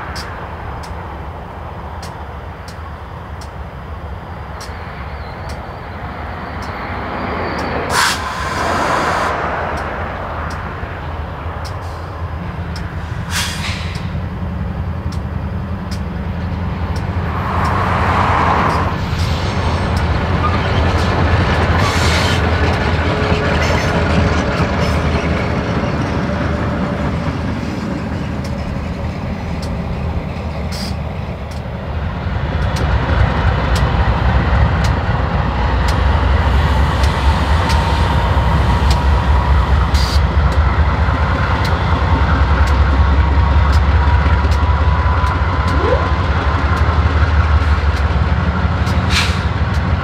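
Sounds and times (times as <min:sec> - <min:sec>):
freight train rumbling: 0:00.0 - 0:50.0
wheels clicking over track: 0:09.6 - 0:50.0.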